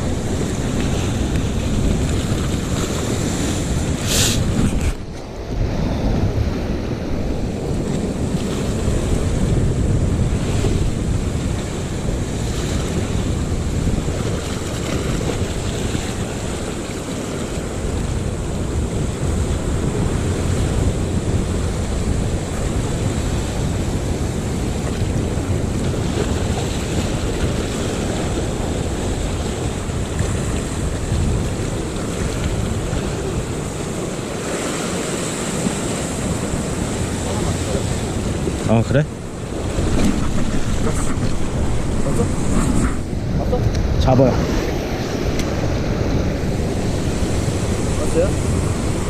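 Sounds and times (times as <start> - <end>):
ocean surf: 0.0 - 49.0
wind rumbling on microphone: 0.0 - 49.0.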